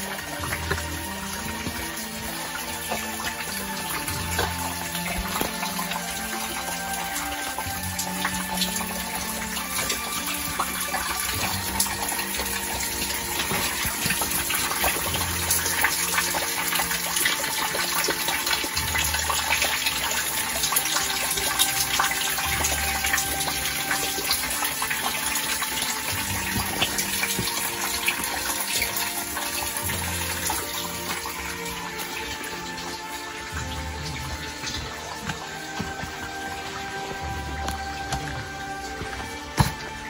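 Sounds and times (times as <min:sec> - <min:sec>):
small waterfall splashing on rocks: 0:00.0 - 0:40.0
soft music of low held notes: 0:00.0 - 0:40.0.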